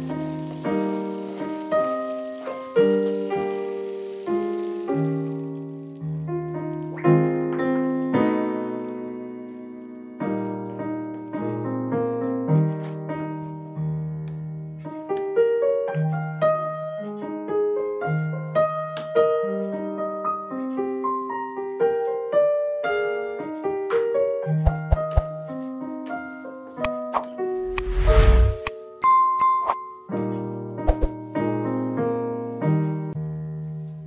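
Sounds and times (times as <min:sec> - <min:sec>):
slow piano music: 0:00.0 - 0:34.0.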